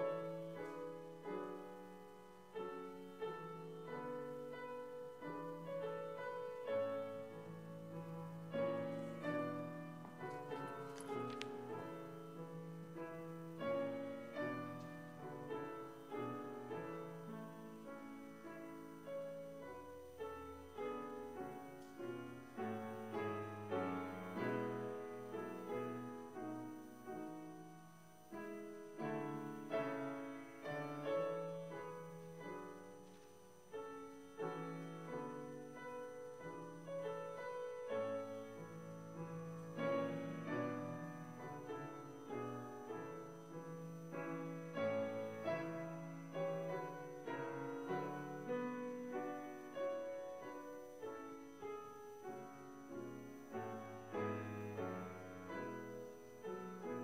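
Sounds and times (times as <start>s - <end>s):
slow solo piano piece: 0.0s - 57.0s.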